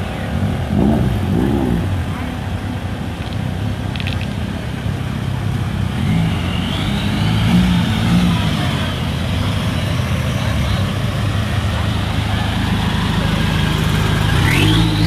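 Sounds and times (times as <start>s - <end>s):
traffic engines rumbling: 0.0s - 15.0s.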